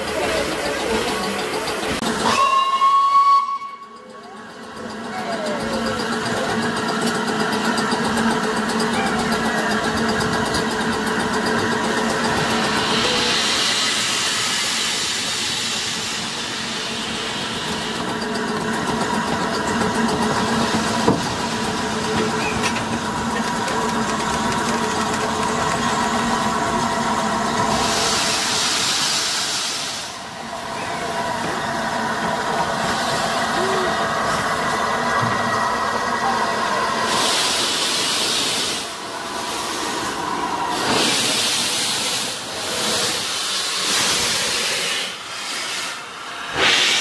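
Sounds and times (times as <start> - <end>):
locomotive mechanical hum: 0.0 - 2.3, 3.4 - 45.4
steam hissing: 0.0 - 3.6, 5.0 - 47.0.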